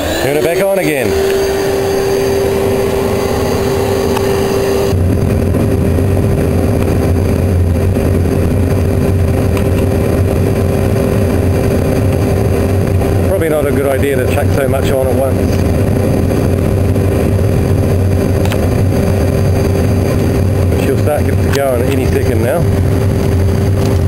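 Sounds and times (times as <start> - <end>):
deep low rumble: 0.0 - 24.0
vacuum blower whining: 0.0 - 24.0.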